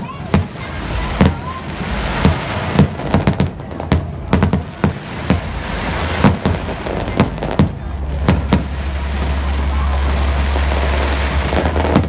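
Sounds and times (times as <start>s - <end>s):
continuous background noise: 0.0s - 12.0s
fireworks bursting: 0.0s - 12.0s.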